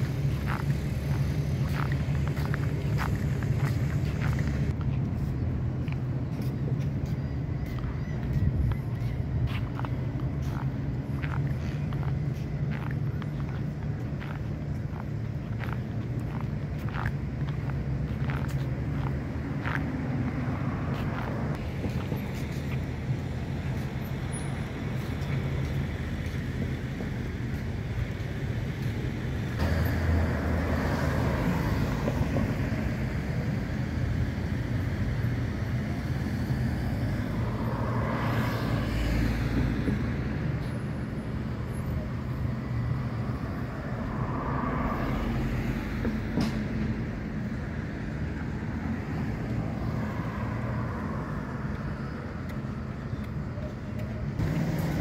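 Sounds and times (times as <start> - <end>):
low engine hum of traffic: 0.0 - 55.0
vehicles passing: 0.0 - 55.0.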